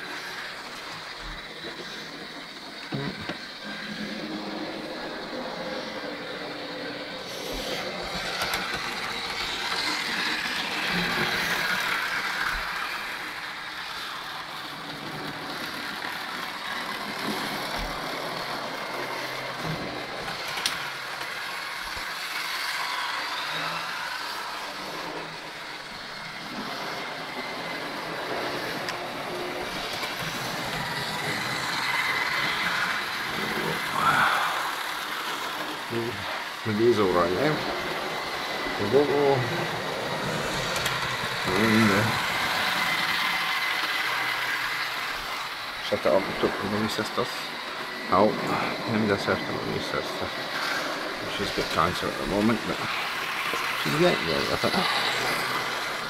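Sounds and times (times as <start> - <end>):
model trains running on rails: 0.0 - 56.0.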